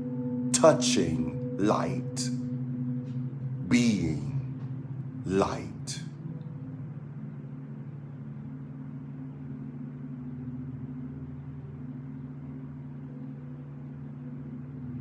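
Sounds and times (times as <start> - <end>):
synth drone music: 0.0 - 15.0.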